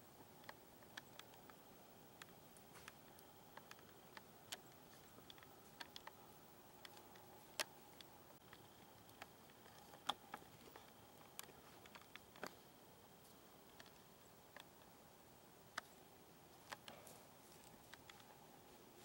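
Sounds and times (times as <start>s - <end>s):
small clicks and ticks: 0.2s - 15.0s, 15.7s - 19.0s.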